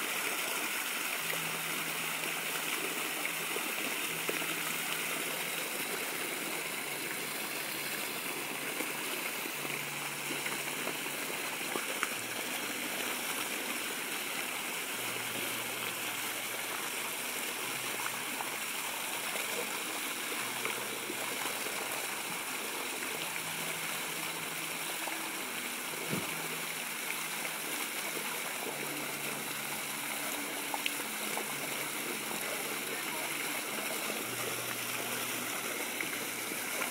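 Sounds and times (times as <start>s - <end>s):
water gushing onto pavement: 0.0s - 36.9s.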